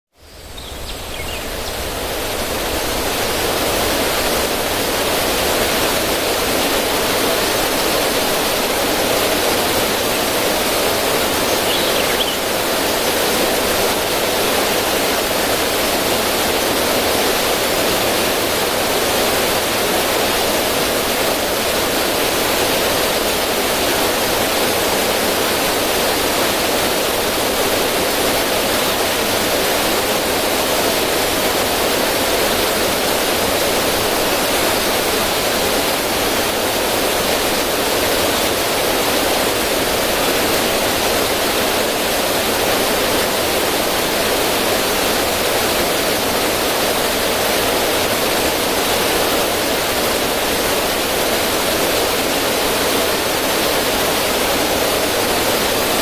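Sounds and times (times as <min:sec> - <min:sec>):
water rushing over rocks: 0:01.4 - 0:56.0.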